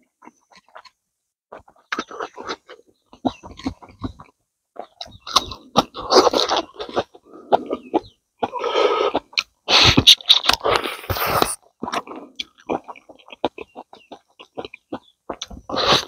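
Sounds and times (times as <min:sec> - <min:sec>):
man chewing loudly: 0:00.1 - 0:16.0.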